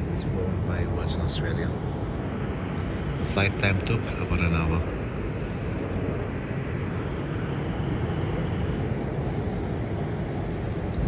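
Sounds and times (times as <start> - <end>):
distant jet aircraft rumble: 0.0 - 11.0
wind on microphone: 0.0 - 11.0.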